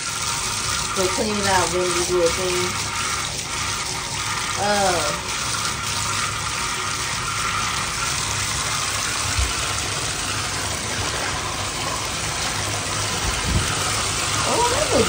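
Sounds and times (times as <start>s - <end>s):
tap water gushing into bathtub: 0.0s - 15.0s.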